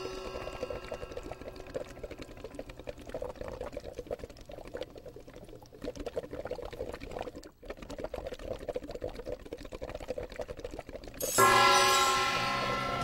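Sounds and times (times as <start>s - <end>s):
liquid bubbling rapidly: 0.0s - 11.4s.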